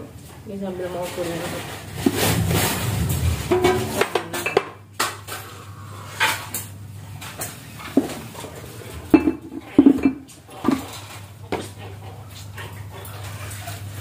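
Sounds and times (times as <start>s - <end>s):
dishes and utensils clattering: 1.0s - 14.0s.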